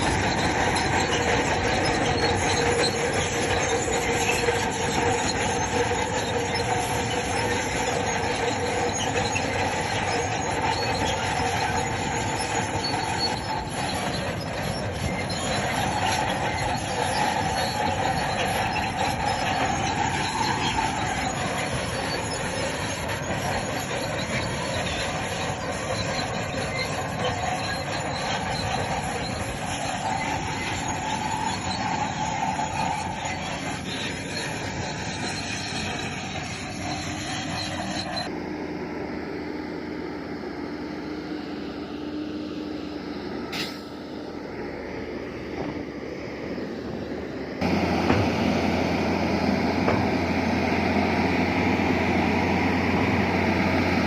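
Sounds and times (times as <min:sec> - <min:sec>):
crawler tracks squealing: 0:00.0 - 0:54.0
diesel engine running: 0:00.0 - 0:54.0.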